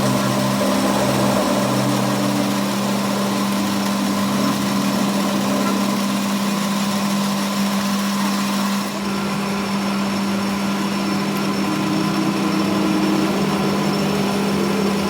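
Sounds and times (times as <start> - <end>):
workshop machine humming: 0.0 - 15.0.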